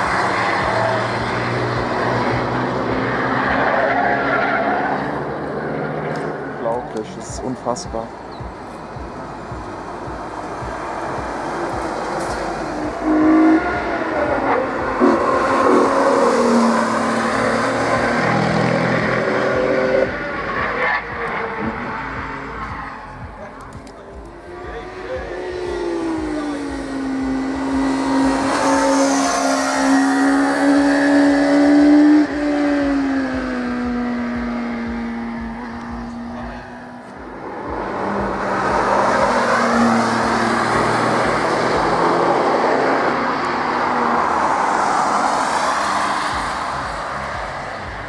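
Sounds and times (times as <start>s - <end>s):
high-revving race car passing: 0.0s - 48.0s
rough engine passing: 0.0s - 48.0s.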